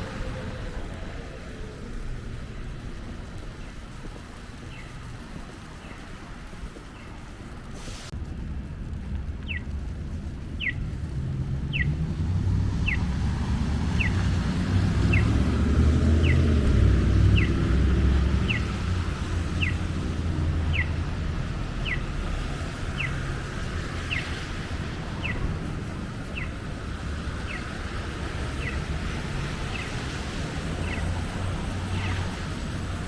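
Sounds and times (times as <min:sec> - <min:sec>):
low traffic rumble: 0:00.0 - 0:33.0.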